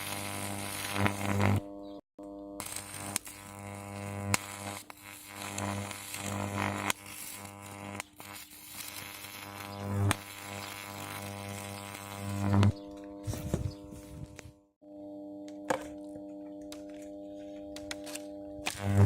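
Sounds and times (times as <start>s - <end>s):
electrical crackling: 0.0s - 1.6s, 2.6s - 13.8s, 16.0s - 19.0s.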